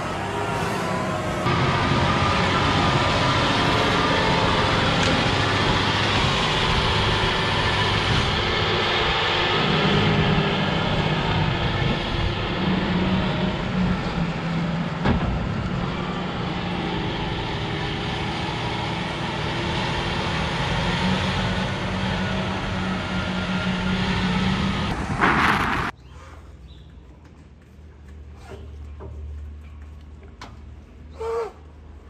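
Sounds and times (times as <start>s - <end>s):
heavy machinery humming: 0.0s - 25.7s.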